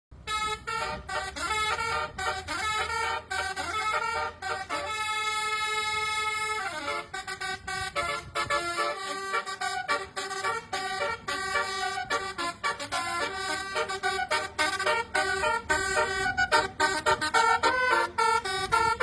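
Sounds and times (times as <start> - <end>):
musical multi-tone bus horn: 0.1 - 19.0.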